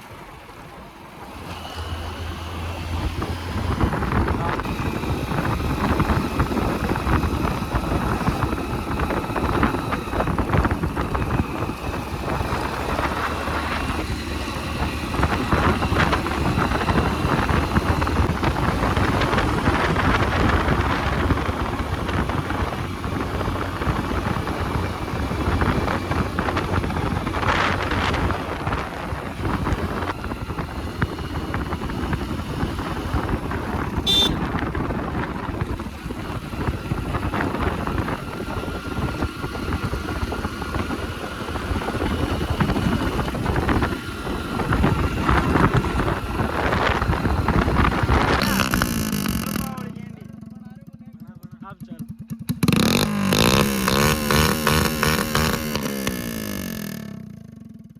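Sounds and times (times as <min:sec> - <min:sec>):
motorcycle engine running: 0:00.0 - 0:57.9
wind buffeting microphone: 0:01.2 - 0:49.6.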